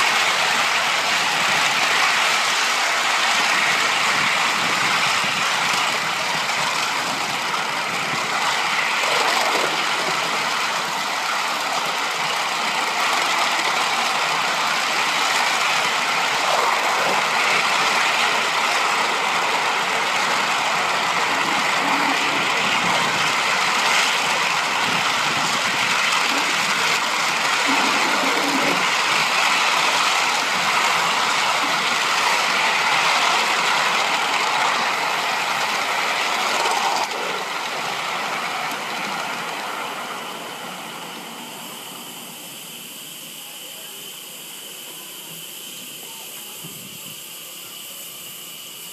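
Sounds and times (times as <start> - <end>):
model train wheels on rails: 0.0 - 48.9
steam hissing: 0.0 - 48.9.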